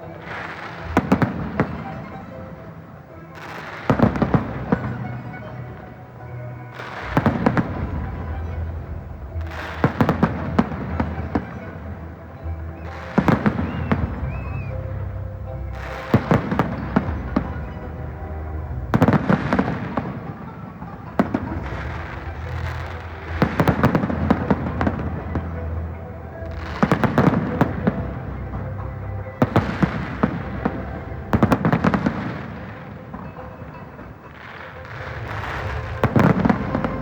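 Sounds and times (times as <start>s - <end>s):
fireworks bangs and crackling: 0.0s - 37.0s
music playing: 0.0s - 37.0s.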